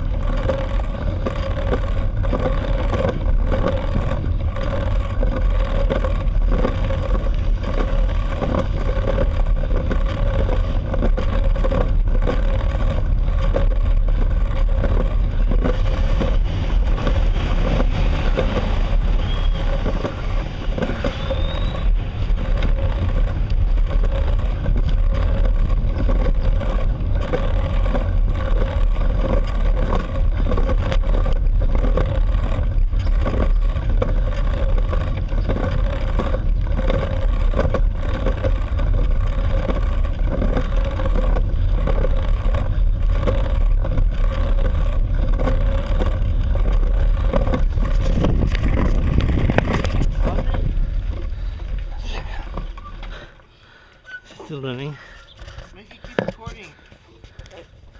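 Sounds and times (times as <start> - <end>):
constant droning tone: 0.0 - 57.9
vehicle rumble and tyre hum: 0.0 - 57.9.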